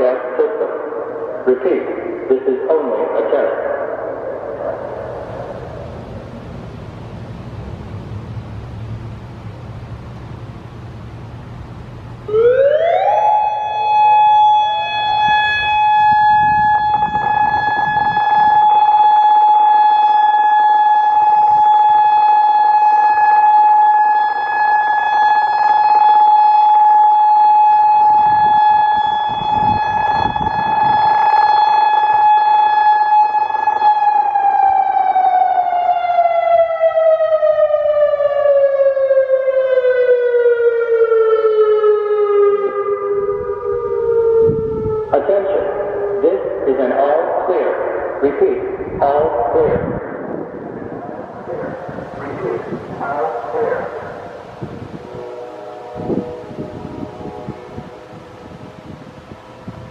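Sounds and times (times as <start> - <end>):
warning siren steady tone: 0.0 - 7.3, 8.0 - 59.9.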